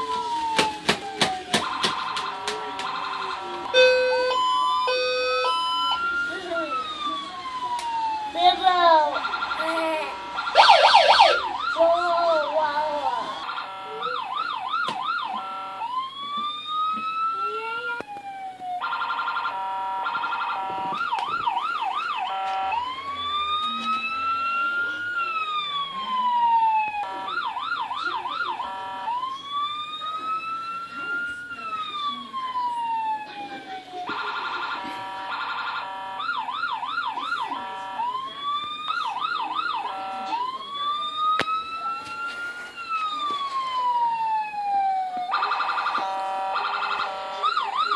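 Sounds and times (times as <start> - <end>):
toy police siren: 0.0 - 47.9.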